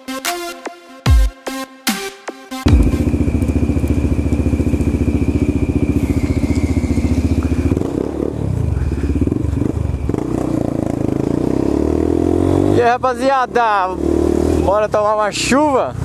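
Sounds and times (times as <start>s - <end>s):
motorcycle engine revving: 2.6s - 16.0s.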